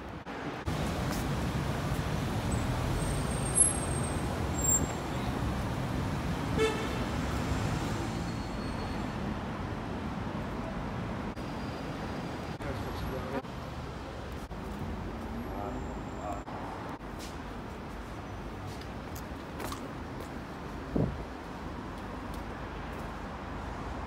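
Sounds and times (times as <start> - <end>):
city street traffic: 0.0 - 24.0.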